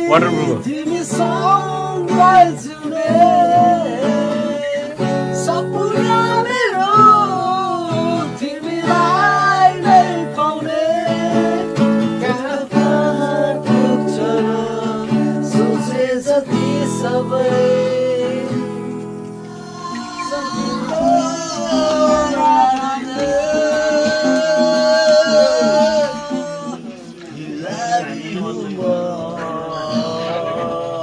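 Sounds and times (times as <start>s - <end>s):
person singing: 0.0s - 18.8s, 19.5s - 31.0s
strummed acoustic guitar: 0.0s - 31.0s.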